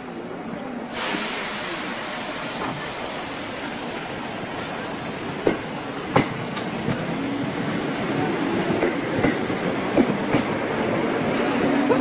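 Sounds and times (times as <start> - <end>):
train rumble: 0.2 - 12.0.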